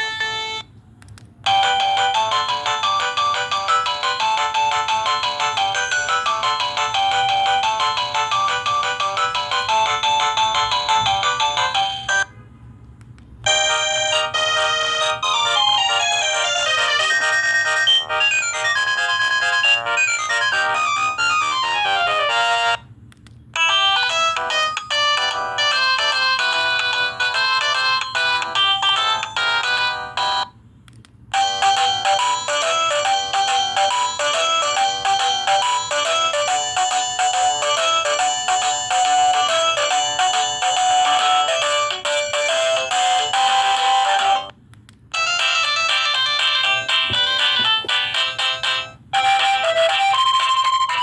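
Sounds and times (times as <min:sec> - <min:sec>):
phone ringtone melodies: 0:00.0 - 0:00.7, 0:01.4 - 0:12.3, 0:13.5 - 0:22.9, 0:23.6 - 0:30.6, 0:31.3 - 0:51.0.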